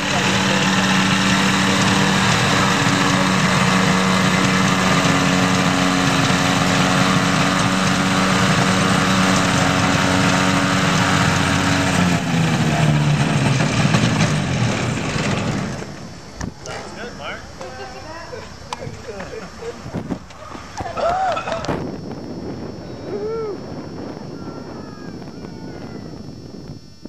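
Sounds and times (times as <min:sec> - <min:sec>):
small propeller engine running: 0:00.0 - 0:27.0.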